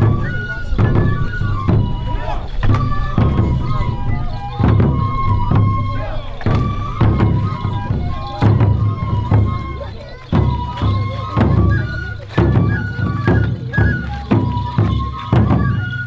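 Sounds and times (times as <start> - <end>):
high flute melody: 0.0 - 16.0.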